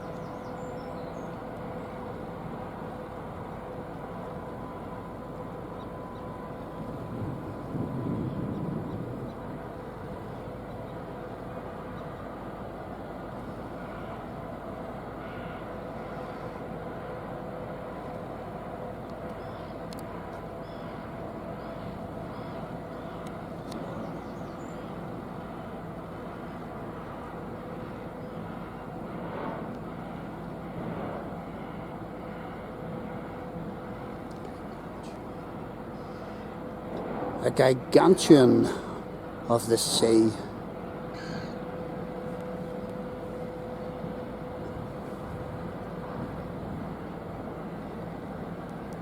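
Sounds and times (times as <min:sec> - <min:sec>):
low rumble of distant engines: 0:00.0 - 0:49.0
ship machinery drone: 0:00.0 - 0:49.0.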